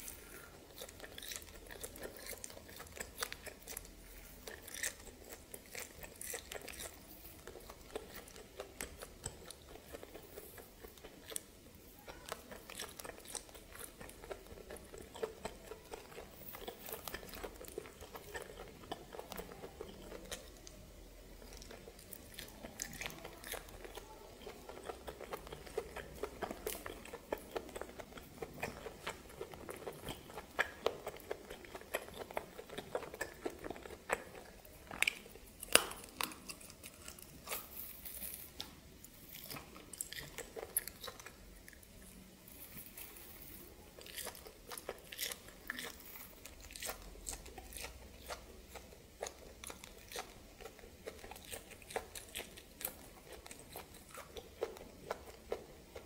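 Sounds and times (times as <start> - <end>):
chewing and biting: 0.0 - 56.0.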